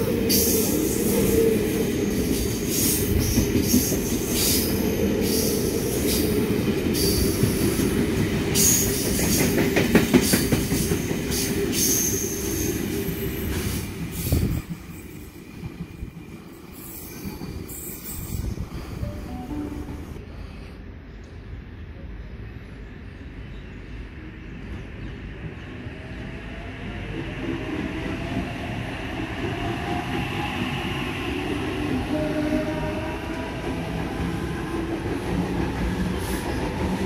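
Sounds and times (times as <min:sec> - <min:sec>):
train wheels rumbling on rail: 0:00.0 - 0:19.2, 0:23.4 - 0:37.0.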